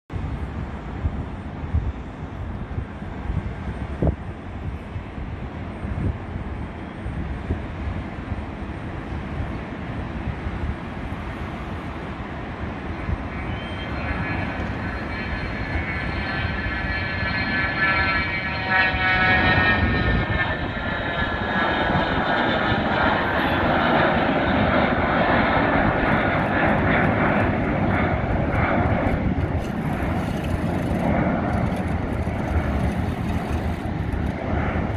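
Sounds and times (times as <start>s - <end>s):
jet engine whine at takeoff: 0.1s - 34.9s.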